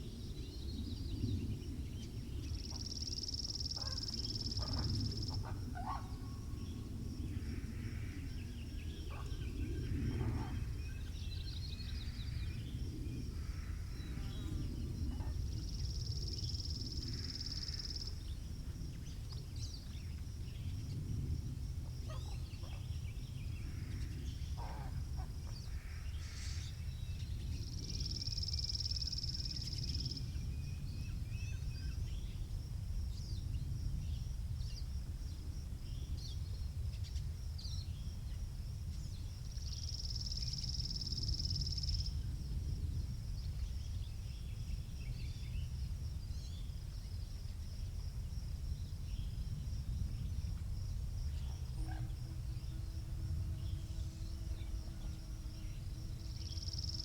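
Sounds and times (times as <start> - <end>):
songbirds chirping: 0.0 - 57.0
wind rumbling on microphone: 0.0 - 57.0.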